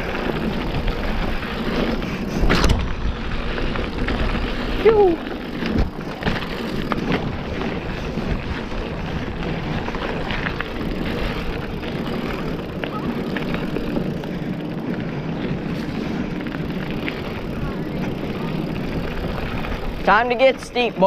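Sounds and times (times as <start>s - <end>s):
bike clicking and rattling: 0.0s - 21.0s
bike tyres on dirt: 0.0s - 21.0s.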